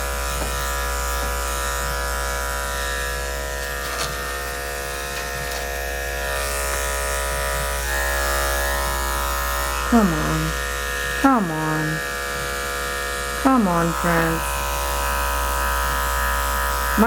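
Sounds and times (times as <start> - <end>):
electric clippers buzzing: 0.0 - 17.0.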